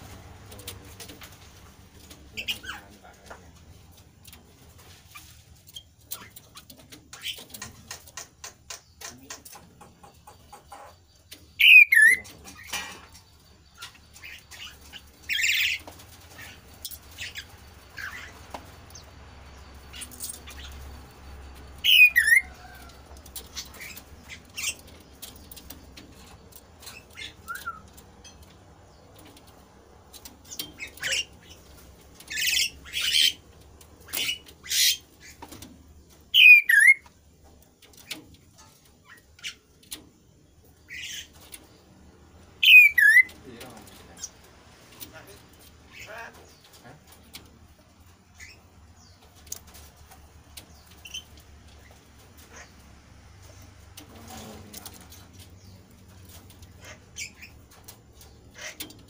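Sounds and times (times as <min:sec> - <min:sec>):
bird raspy chattering: 0:02.0 - 0:04.4, 0:05.1 - 0:35.7, 0:36.3 - 0:37.1, 0:40.7 - 0:41.8, 0:42.5 - 0:47.5, 0:50.6 - 0:59.0.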